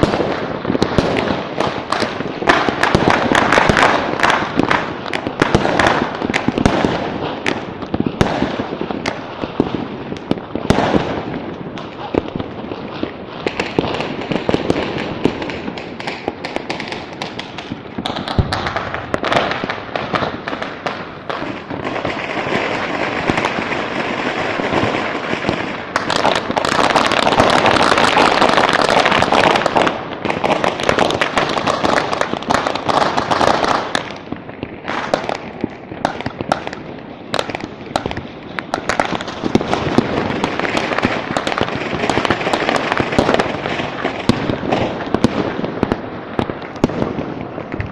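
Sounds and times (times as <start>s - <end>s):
fireworks and firecrackers: 0.0s - 47.9s.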